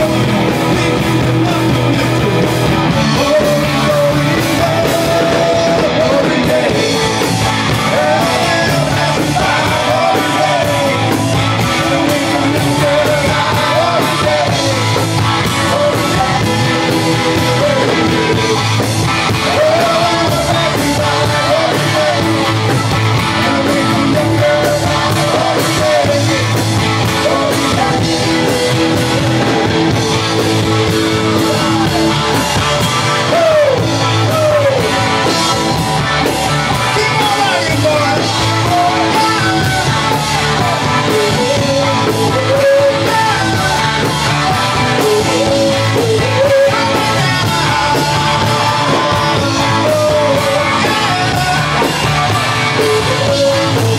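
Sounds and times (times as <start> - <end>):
electric guitars with bent notes: 0.0 - 53.9
live rock band playing: 0.0 - 53.9.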